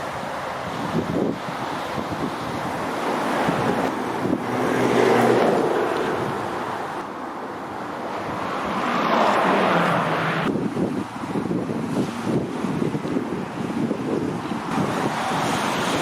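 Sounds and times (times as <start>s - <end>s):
low engine hum: 0.0s - 16.0s
tyres and wind rushing: 0.0s - 16.0s
wind on microphone: 0.0s - 16.0s.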